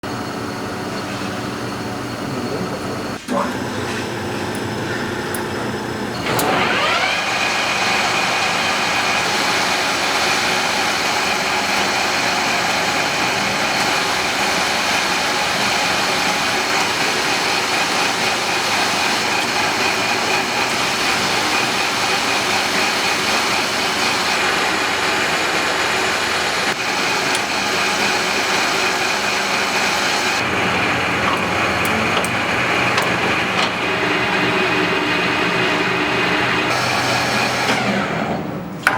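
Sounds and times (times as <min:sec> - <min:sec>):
lathe mechanical whine: 0:00.0 - 0:38.9.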